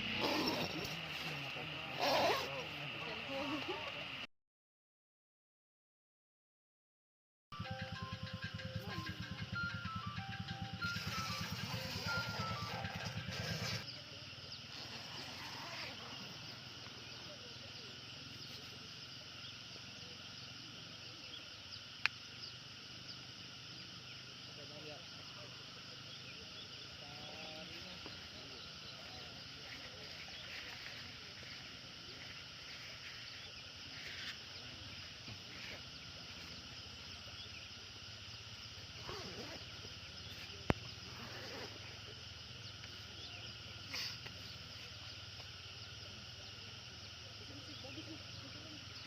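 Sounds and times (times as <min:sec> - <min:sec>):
insects trilling: 0:00.0 - 0:04.2, 0:07.6 - 0:49.0
faint distant voices: 0:00.0 - 0:04.3, 0:07.6 - 0:49.0.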